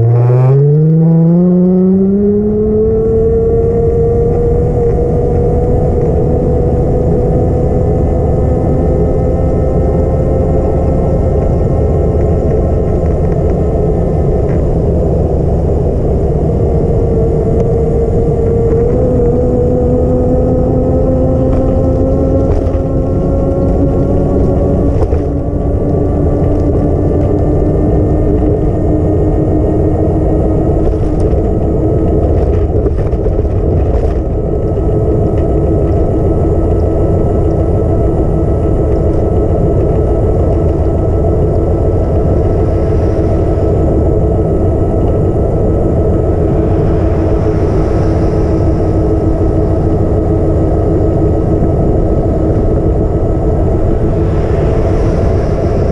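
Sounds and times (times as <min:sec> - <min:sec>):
road and wind rumble: 0:00.0 - 0:55.9
vehicle engine running: 0:00.0 - 0:55.9.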